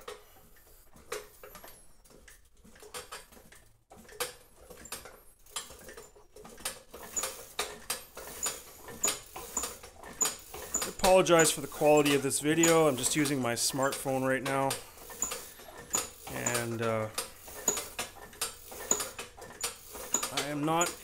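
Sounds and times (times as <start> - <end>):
hand-cranked air compressor clicking: 0.0 - 21.0.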